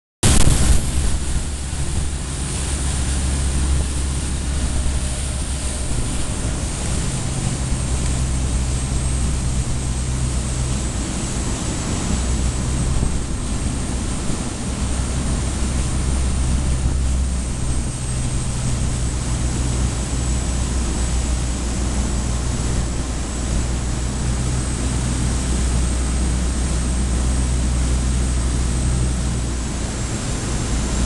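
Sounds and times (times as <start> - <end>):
boat diesel engine drone: 0.2 - 31.0
wake water rushing: 0.2 - 31.0
wind on microphone: 0.2 - 31.0.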